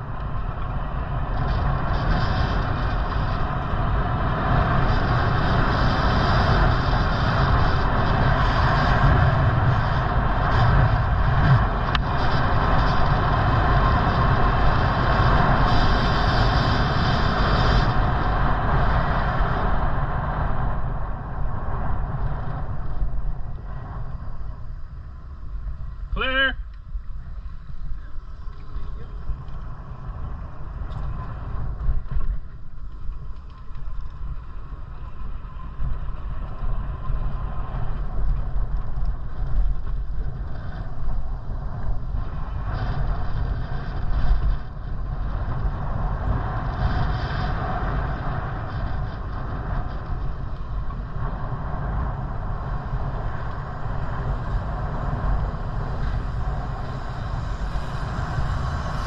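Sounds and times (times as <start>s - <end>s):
bicycle tyre and road noise: 0.0s - 59.0s
wind buffeting microphone: 0.0s - 59.0s.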